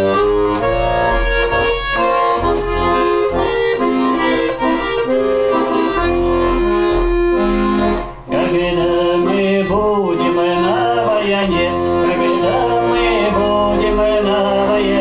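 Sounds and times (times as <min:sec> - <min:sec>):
accordion playing: 0:00.0 - 0:15.0.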